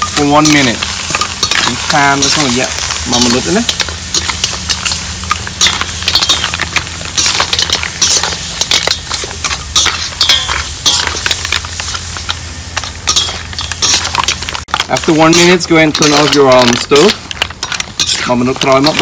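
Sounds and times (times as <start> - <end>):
shellfish sizzling in a pan: 0.0 - 19.0
spatula scraping: 0.0 - 19.0.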